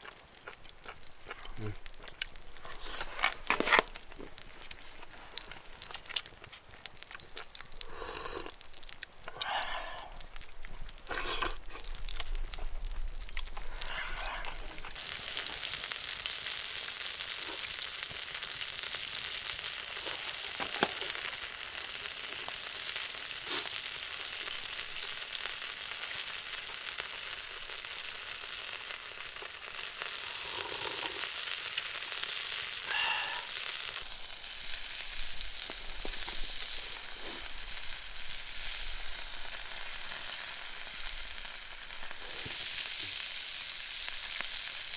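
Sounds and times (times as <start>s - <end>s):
offal sizzling in a pan: 0.0s - 44.9s.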